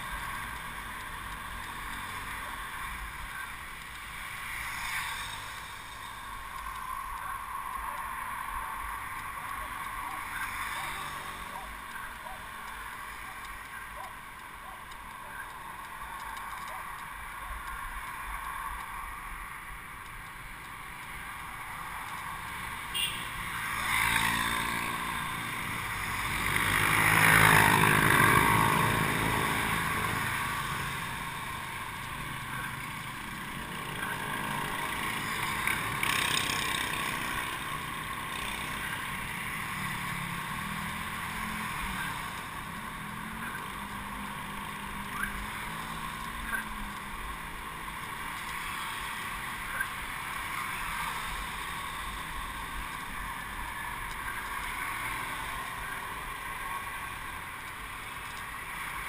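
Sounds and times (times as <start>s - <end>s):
motorcycle passing: 0.0s - 19.2s, 20.5s - 59.0s
wind and road noise: 0.0s - 59.0s.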